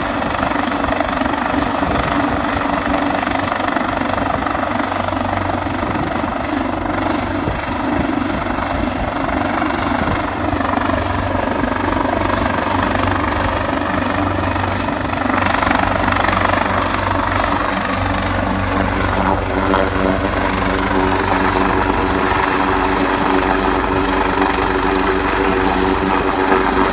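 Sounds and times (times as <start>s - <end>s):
turbine whine: 0.0s - 26.9s.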